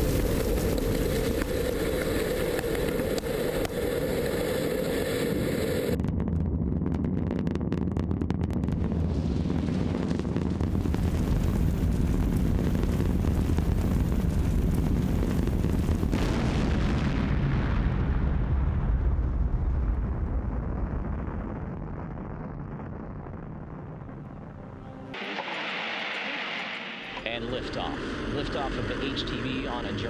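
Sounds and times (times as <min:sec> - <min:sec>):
deep rumble of rocket fireball: 0:00.0 - 0:24.3.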